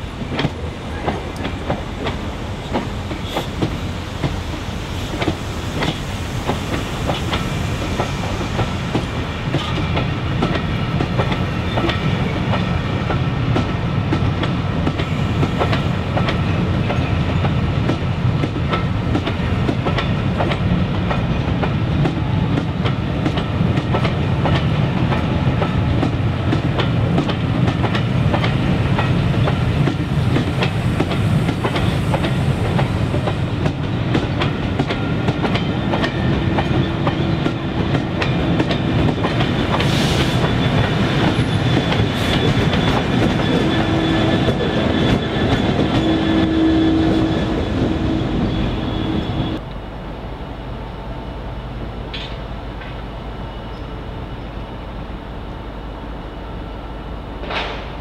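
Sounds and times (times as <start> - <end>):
train wheels clicking over rail joints: 0.0 - 49.6, 52.1 - 53.0, 57.4 - 58.0
distant train rumble: 0.0 - 58.0.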